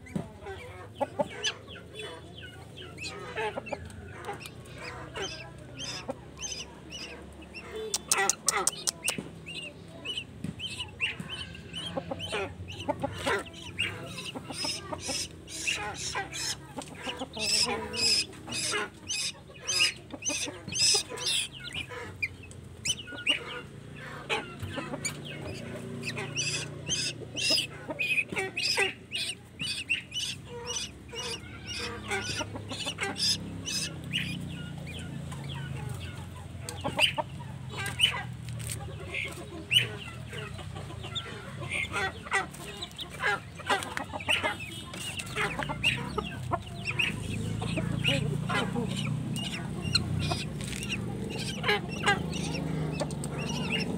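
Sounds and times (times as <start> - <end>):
chick begging calls: 0.0 - 53.9.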